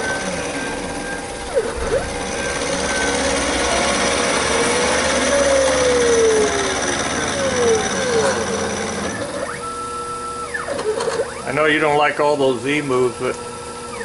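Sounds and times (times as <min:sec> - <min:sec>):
drive motors whining: 0:00.0 - 0:14.0
mill spindle cutting metal: 0:00.0 - 0:14.0.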